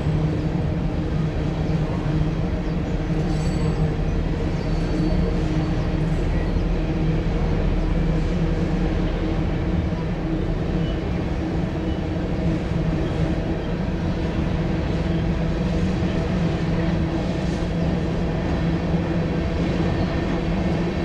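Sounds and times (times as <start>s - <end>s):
diesel locomotive engines droning: 0.0s - 21.0s.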